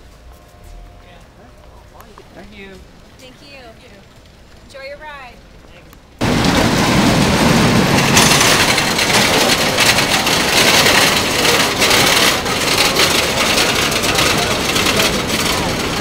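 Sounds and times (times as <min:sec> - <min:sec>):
roller coaster rumbling and rattling: 0:00.4 - 0:16.0.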